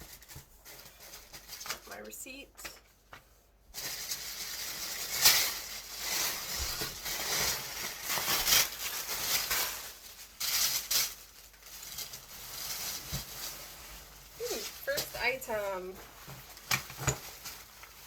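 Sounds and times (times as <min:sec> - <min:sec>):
packaging rustling and crinkling: 0:00.0 - 0:18.0.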